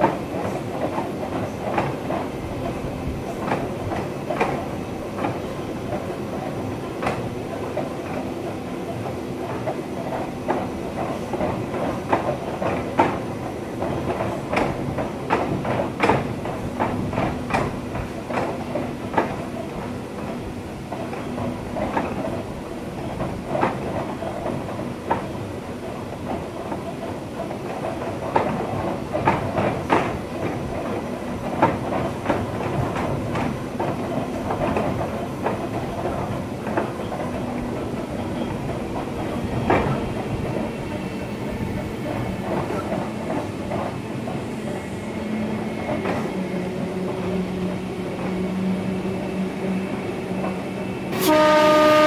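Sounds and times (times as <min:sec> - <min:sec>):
train rumble: 0:00.0 - 0:52.0.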